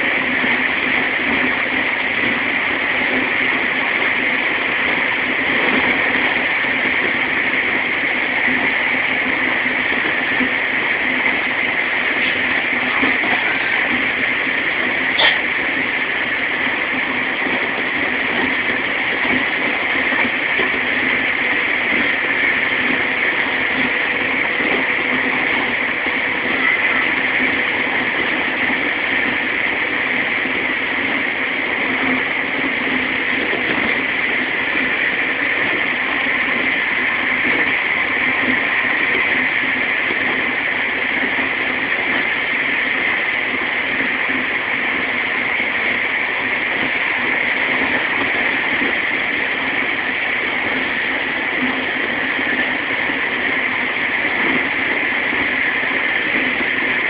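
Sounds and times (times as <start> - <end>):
train running noise inside carriage: 0.0 - 57.0.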